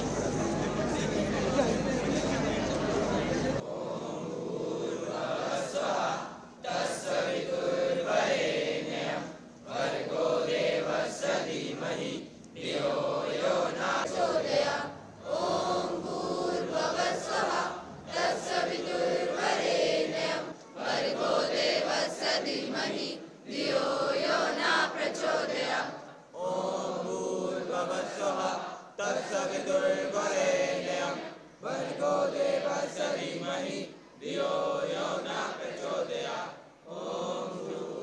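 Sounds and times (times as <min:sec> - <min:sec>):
students chanting in unison: 0:00.0 - 0:38.0.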